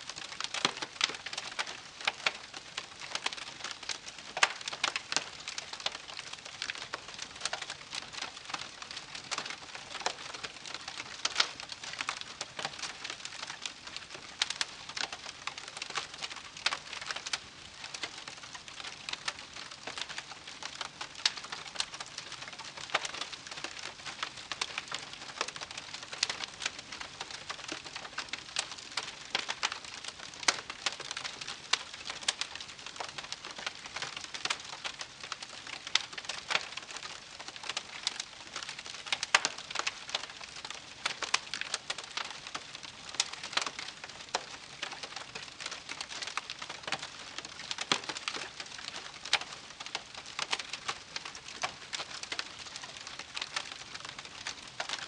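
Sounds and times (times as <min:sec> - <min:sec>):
campfire crackling: 0:00.1 - 0:55.0.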